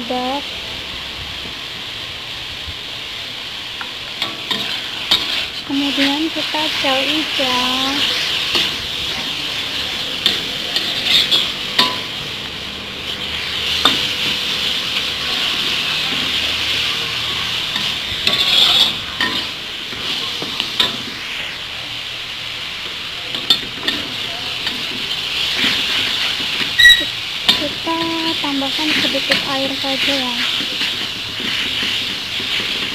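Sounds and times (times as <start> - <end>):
food sizzling in a wok: 0.0 - 32.9
spatula scraping a wok: 4.2 - 21.8, 22.9 - 32.9.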